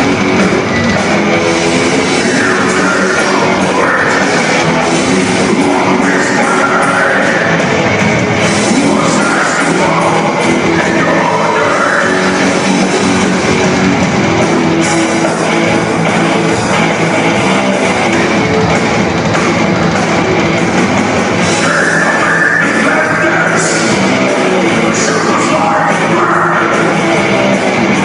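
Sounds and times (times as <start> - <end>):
drums: 0.0 - 28.0
heavy guitars: 0.0 - 28.0.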